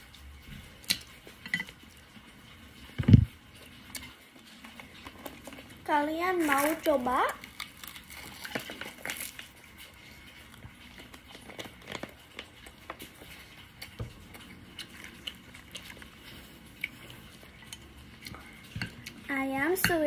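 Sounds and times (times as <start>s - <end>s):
biting and chewing crisp food: 0.0s - 19.3s.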